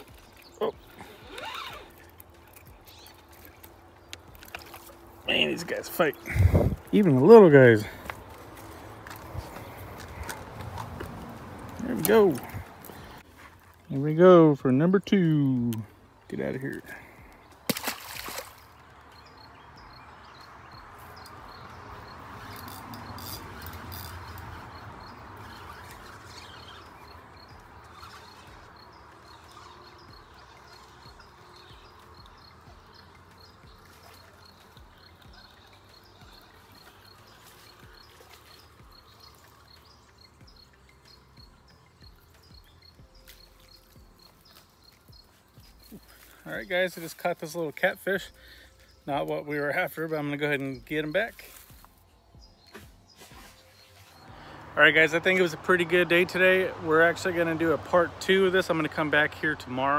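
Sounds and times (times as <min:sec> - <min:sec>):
trickling river water: 0:00.0 - 0:59.9.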